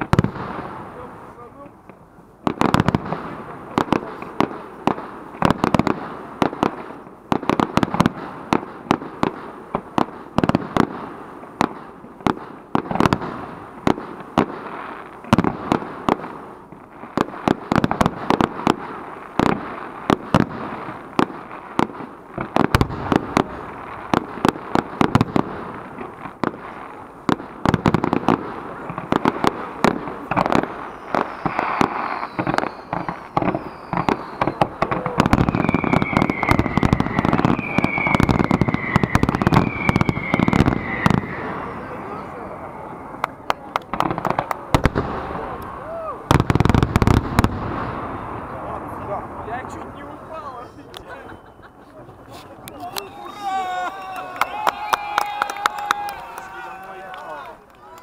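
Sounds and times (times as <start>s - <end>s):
firework bursts and bangs: 0.0s - 58.0s
firework crackling: 0.0s - 58.0s.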